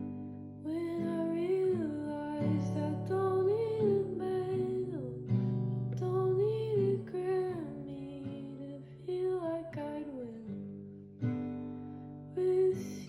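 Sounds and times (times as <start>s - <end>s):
acoustic guitar chords: 0.0s - 13.0s
woman singing: 0.6s - 10.8s, 12.3s - 13.0s.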